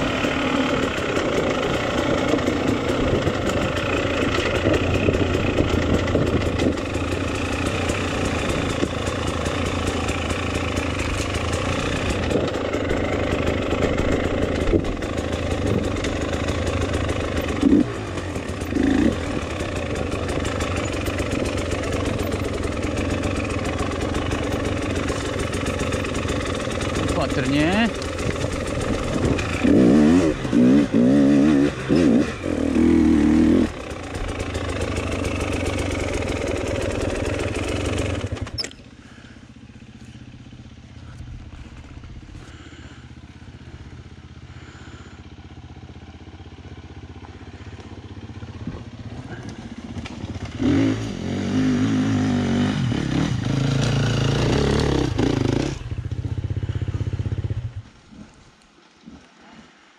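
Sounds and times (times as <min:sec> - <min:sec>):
motorcycle engine revving: 0:00.0 - 0:58.4.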